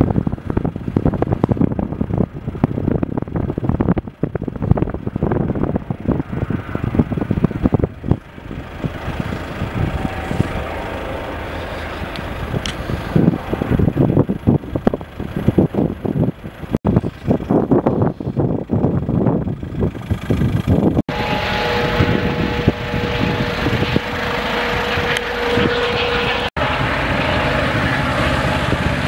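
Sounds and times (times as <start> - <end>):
distant helicopter drone: 0.0 - 29.0
wind buffeting microphone: 0.0 - 29.0.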